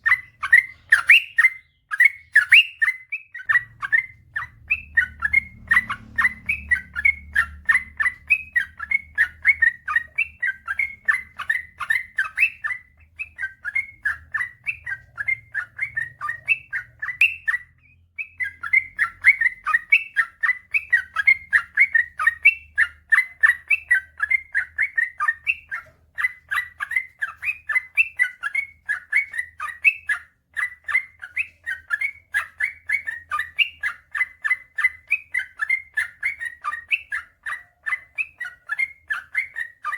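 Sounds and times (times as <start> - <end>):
bird singing warbled notes: 0.0 - 39.9.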